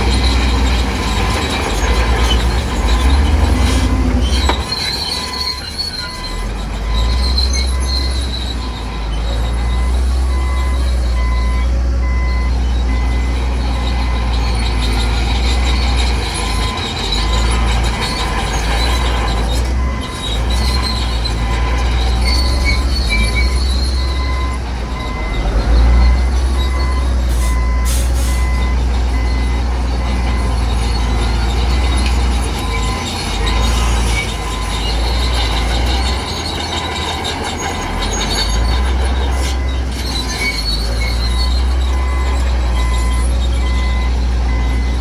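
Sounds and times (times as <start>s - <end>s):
deep diesel rumble: 0.0s - 45.0s
reversing alarm beeping: 0.0s - 45.0s
squealing metal: 0.0s - 45.0s.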